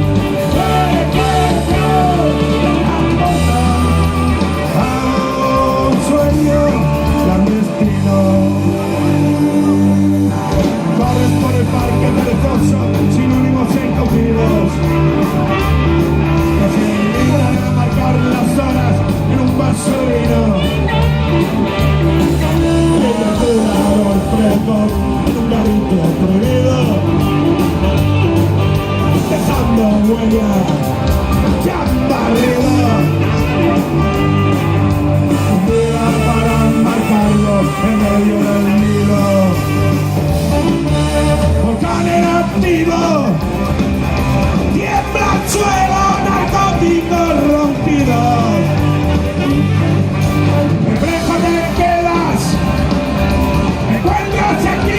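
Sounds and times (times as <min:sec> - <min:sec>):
person singing: 0:00.0 - 0:27.7, 0:28.8 - 0:43.5, 0:44.6 - 0:50.3, 0:53.8 - 0:54.9
rock band playing: 0:00.0 - 0:54.9.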